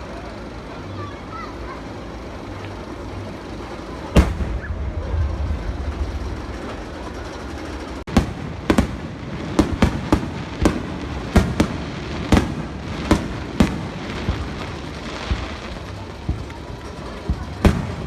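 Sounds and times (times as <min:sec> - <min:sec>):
fireworks bangs: 0:02.5 - 0:18.0.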